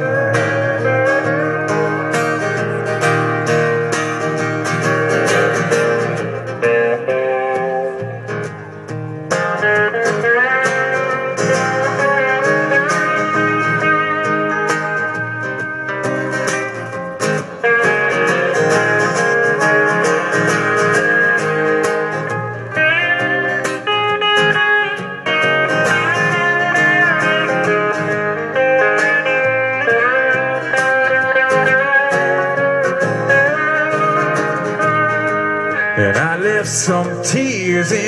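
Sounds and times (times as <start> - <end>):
lead guitar bending notes: 0.0 - 38.0
strummed acoustic guitars: 0.0 - 38.0.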